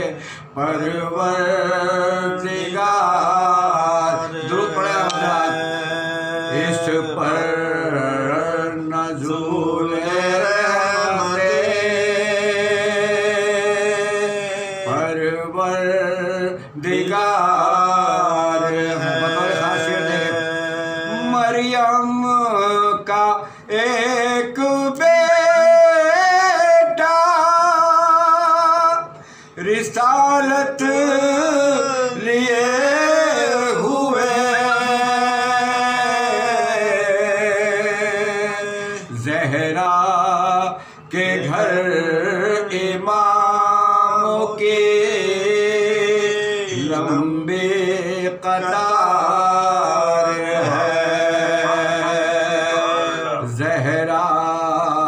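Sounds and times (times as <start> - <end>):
men chanting: 0.0 - 55.0.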